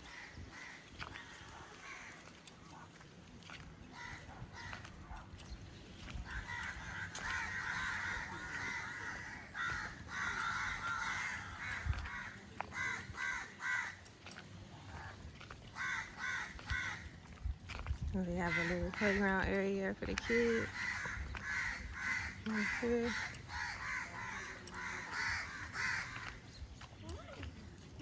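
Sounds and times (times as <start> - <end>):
crows cawing: 0.0 - 2.8, 3.4 - 5.2, 6.0 - 26.6.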